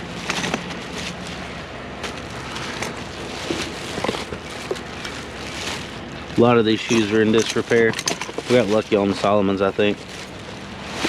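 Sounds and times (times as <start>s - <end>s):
rustling through bag of shoes: 0.0s - 11.0s.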